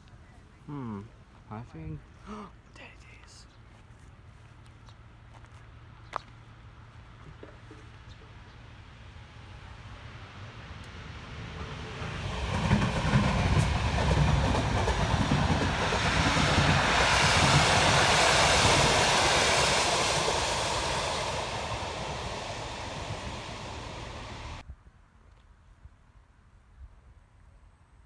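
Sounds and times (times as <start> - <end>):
train passing: 0.8 - 24.6.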